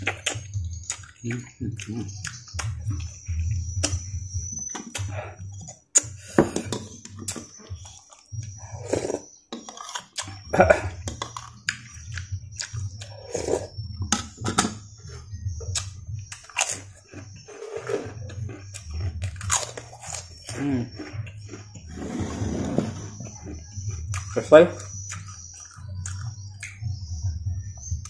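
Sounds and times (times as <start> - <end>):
man chewing and smacking: 0.0 - 21.9, 22.9 - 27.1.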